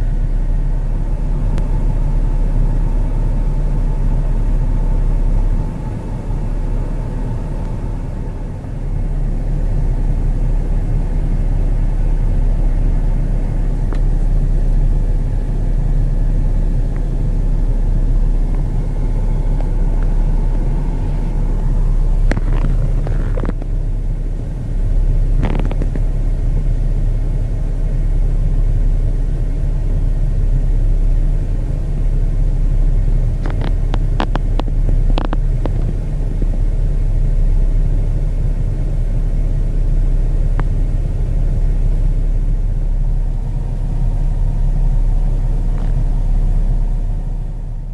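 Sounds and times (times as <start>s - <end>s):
truck engines rumbling: 0.0s - 47.9s.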